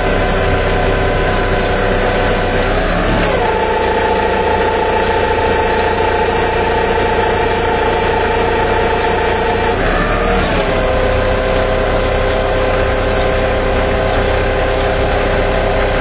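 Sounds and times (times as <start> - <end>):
forklift whine: 0.0 - 16.0
low engine hum: 0.0 - 16.0.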